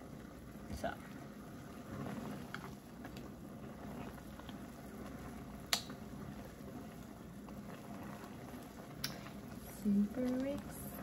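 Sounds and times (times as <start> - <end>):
noodles bubbling in boiling water: 0.0 - 11.0.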